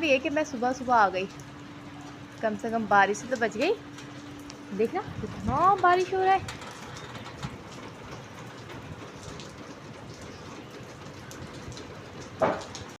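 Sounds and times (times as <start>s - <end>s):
drips and splashes: 0.0s - 13.0s
heavy rain falling: 0.0s - 13.0s.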